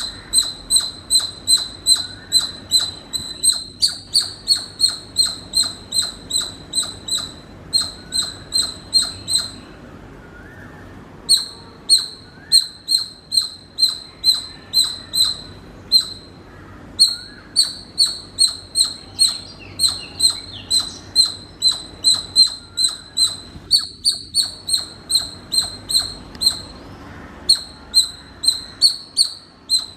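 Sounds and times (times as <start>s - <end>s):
squirrel chirping: 0.0s - 9.8s, 11.2s - 29.9s.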